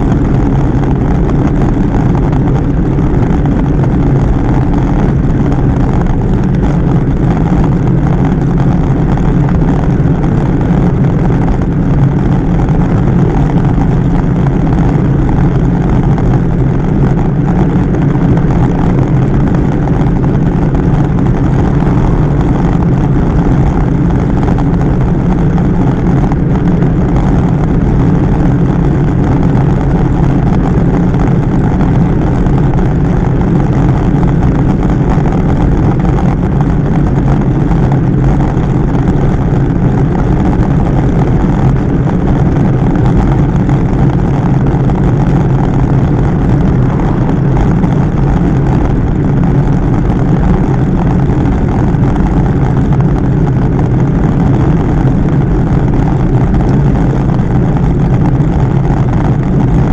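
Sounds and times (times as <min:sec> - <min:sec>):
rolling road noise: 0:00.0 - 0:59.9
wind rushing over microphone: 0:00.0 - 0:59.9.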